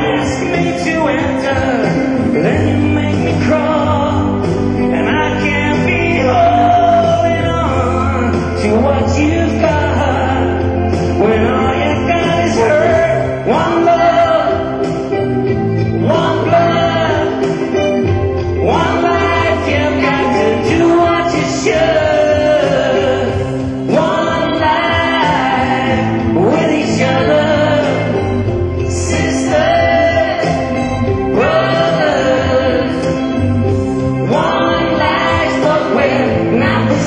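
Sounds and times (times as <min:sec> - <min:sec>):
live band playing a song: 0:00.0 - 0:37.0
person singing with backing harmonies: 0:00.0 - 0:37.0.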